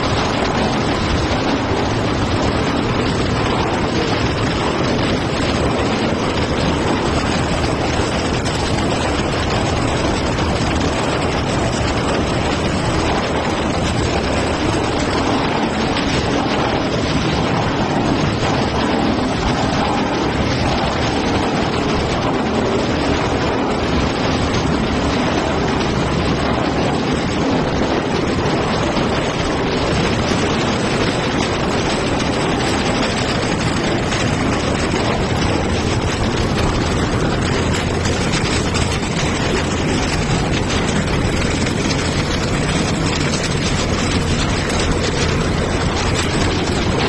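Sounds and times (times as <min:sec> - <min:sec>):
recycling machinery running: 0:00.0 - 0:47.0.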